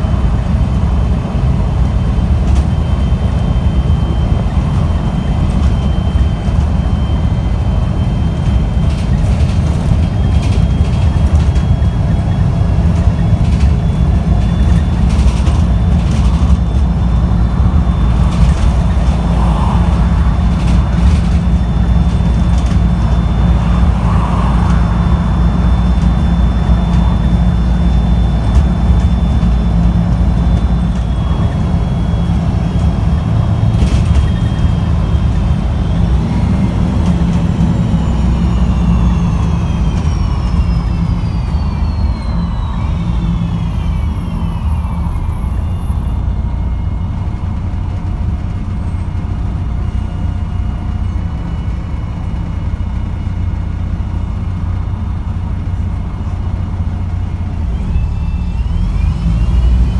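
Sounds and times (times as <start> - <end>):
bus diesel engine running: 0.0 - 59.9
thin high whine: 1.4 - 59.9.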